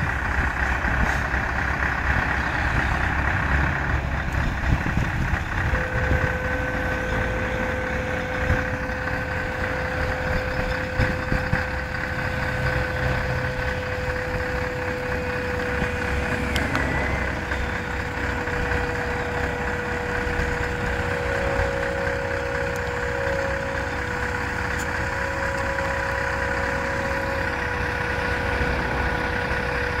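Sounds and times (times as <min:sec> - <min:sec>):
constant machine whine: 0:00.0 - 0:30.0
diesel engines idling rumble: 0:00.0 - 0:30.0.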